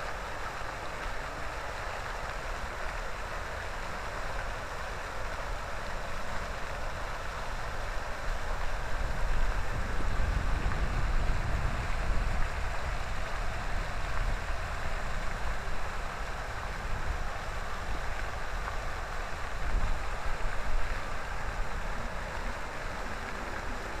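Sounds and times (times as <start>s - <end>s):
fountain jets splashing into pool: 0.0s - 24.0s.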